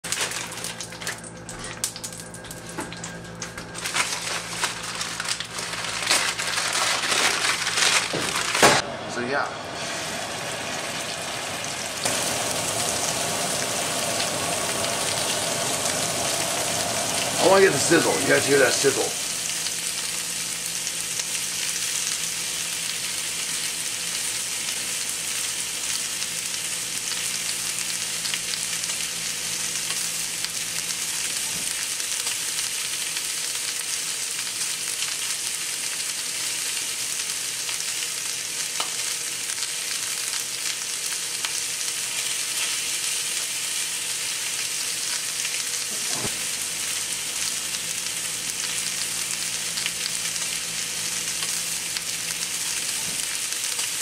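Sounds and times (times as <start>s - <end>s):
steaks sizzling in a skillet: 9.8s - 54.0s.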